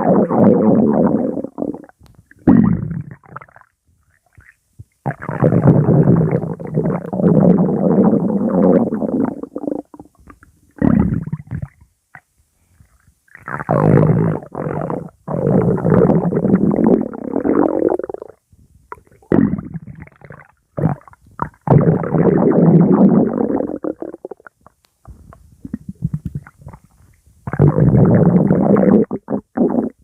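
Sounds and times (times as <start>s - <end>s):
stomach growling: 0.0s - 30.0s.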